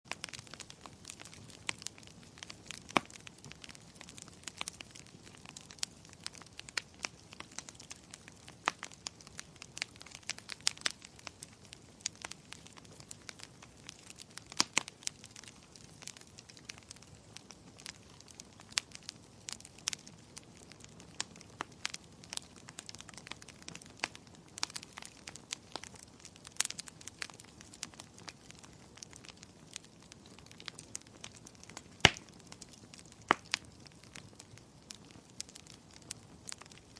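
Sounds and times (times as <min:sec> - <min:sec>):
wood fire crackling and popping: 0:00.1 - 0:36.9.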